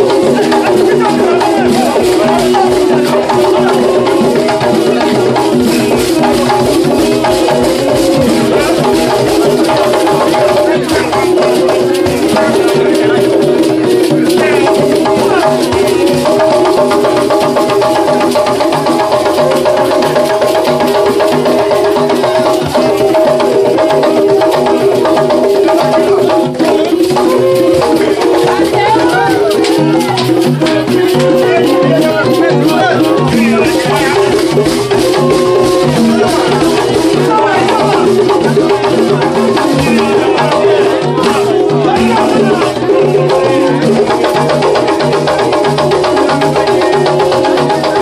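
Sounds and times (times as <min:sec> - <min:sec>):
hand drums and percussion: 0:00.0 - 0:48.0
held melodic line: 0:00.0 - 0:48.0.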